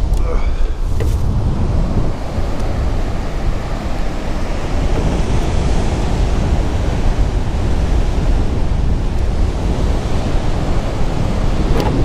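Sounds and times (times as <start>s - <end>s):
breaking surf: 0.0s - 12.0s
wind rumbling over microphone: 0.0s - 12.0s.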